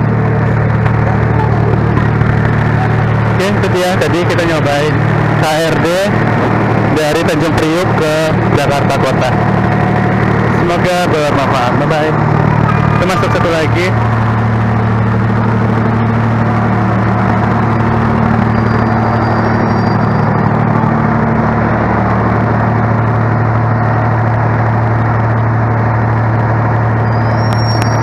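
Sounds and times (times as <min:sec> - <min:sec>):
high thin whine: 0:00.0 - 0:24.4
diesel engine idling: 0:00.0 - 0:28.0.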